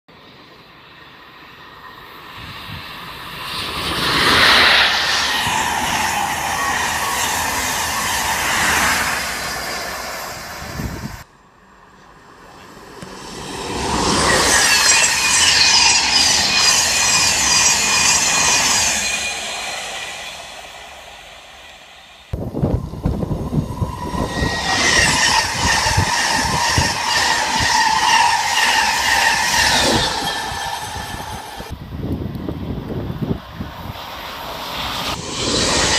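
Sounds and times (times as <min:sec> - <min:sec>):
train wheels rushing on rails: 0:00.2 - 0:11.3, 0:11.9 - 0:35.9.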